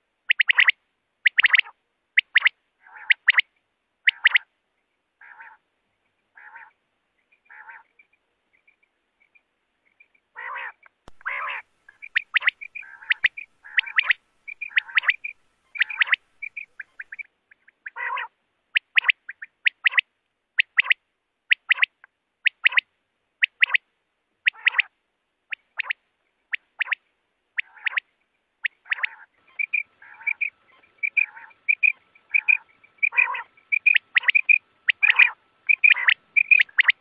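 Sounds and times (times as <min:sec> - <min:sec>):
quail calling: 0:00.3 - 0:04.5, 0:05.2 - 0:05.7, 0:06.3 - 0:06.8, 0:07.4 - 0:08.0, 0:10.4 - 0:22.8, 0:23.4 - 0:23.8, 0:24.4 - 0:24.9, 0:25.5 - 0:27.0, 0:27.6 - 0:37.0.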